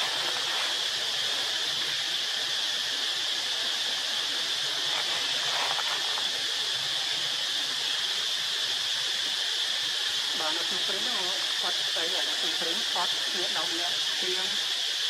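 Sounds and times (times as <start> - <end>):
constant hiss: 0.0 - 15.0
insect chorus drone: 0.0 - 15.0.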